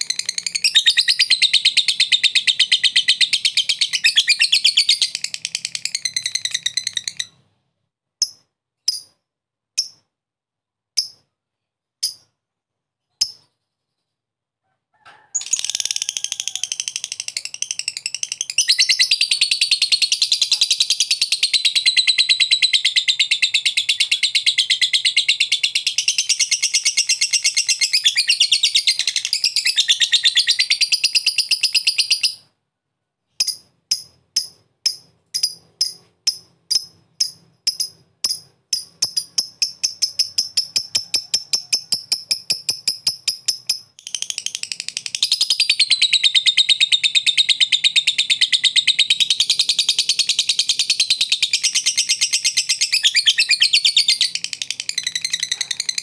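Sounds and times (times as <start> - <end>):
bird chattering song: 0.0 - 7.4, 15.4 - 32.5, 33.4 - 56.0.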